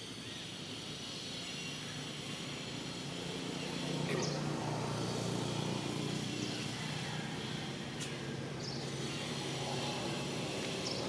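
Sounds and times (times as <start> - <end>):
distant engine traffic drone: 0.0 - 11.0.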